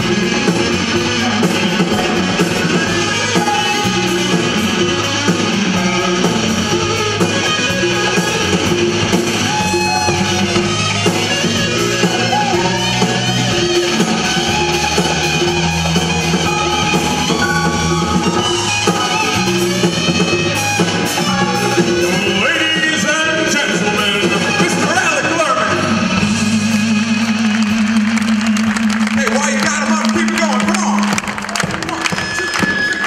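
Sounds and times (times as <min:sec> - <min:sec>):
live soul band playing: 0:00.0 - 0:30.4
electric guitar: 0:00.0 - 0:33.0.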